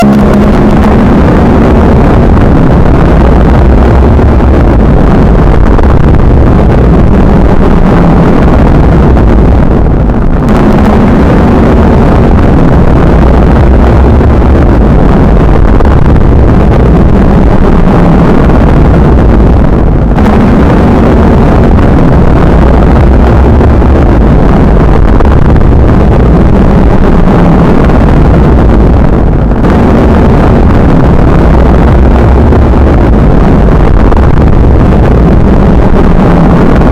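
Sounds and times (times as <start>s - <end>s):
heavy rain: 0.0s - 36.9s.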